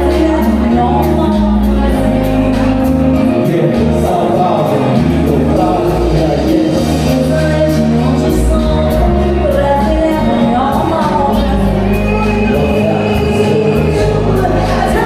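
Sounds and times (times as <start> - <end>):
band playing with singing: 0.0 - 15.0.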